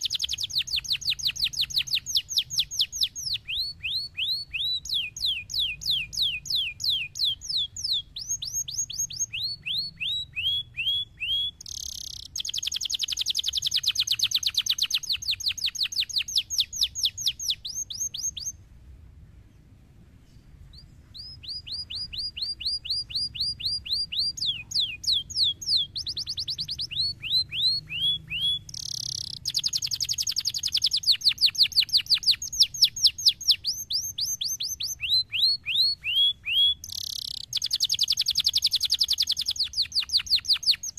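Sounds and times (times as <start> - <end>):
canary singing trills: 0.0 - 18.6, 20.6 - 40.9.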